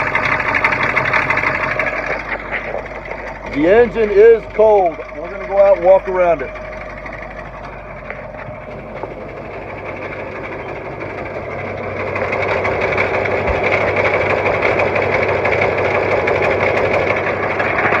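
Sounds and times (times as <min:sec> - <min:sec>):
diesel engine idling with clatter: 0:00.0 - 0:18.0.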